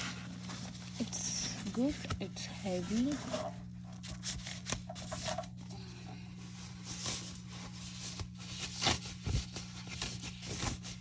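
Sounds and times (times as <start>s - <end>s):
packaging rustling: 0.0s - 11.0s
steady low hum: 0.0s - 11.0s.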